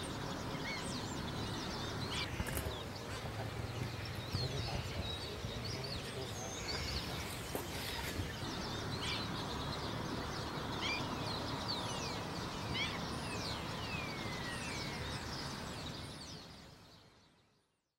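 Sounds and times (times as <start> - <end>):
waterbirds whistling calls: 0.0 - 17.6
background hiss and rumble: 0.0 - 17.9.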